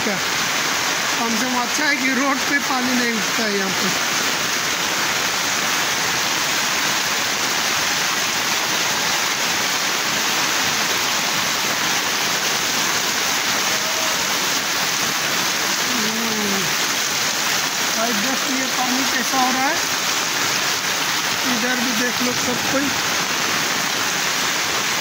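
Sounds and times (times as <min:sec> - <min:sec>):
heavy rain hiss: 0:00.0 - 0:25.0.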